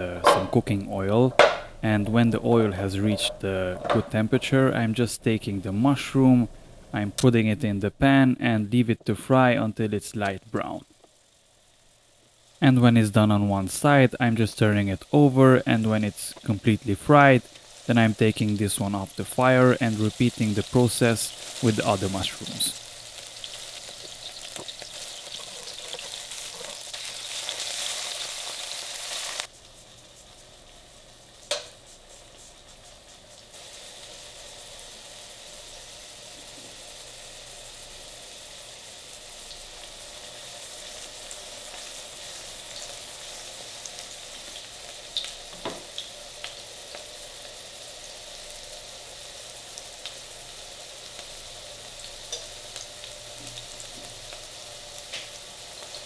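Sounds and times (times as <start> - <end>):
mushrooms sizzling in oil: 9.4 - 56.0.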